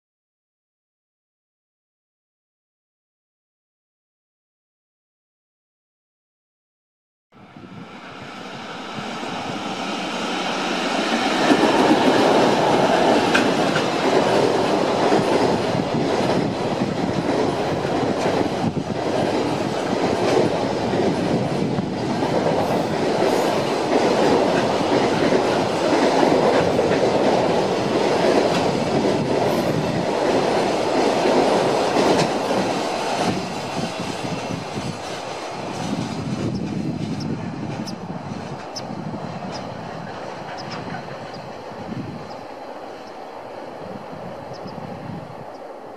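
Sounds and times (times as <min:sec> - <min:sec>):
freight train wheels on rails: 0:07.5 - 0:45.9.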